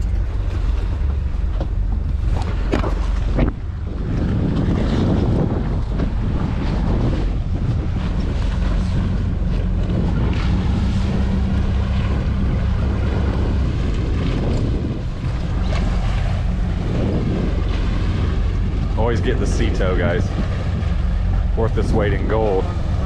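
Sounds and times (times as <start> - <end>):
boat engine running: 0.0 - 23.0
wind buffeting microphone: 0.0 - 23.0.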